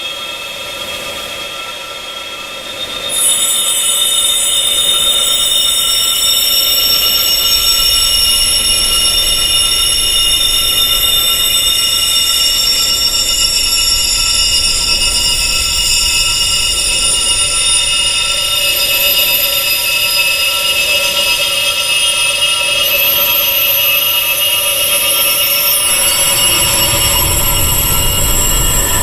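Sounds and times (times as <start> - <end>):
high wind chimes ringing: 3.1 - 21.6, 22.7 - 29.0.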